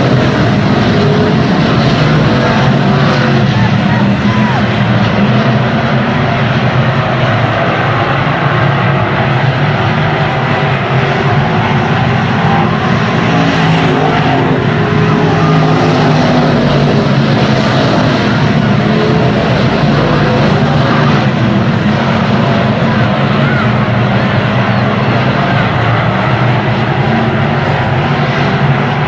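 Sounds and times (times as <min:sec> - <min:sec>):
stock car engines racing: 0:00.0 - 0:29.0.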